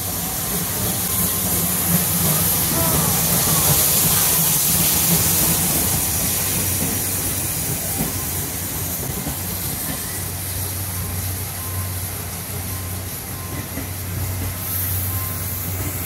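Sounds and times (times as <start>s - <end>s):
steam locomotive hissing: 0.0s - 16.0s
train coaches rolling by: 0.0s - 16.0s.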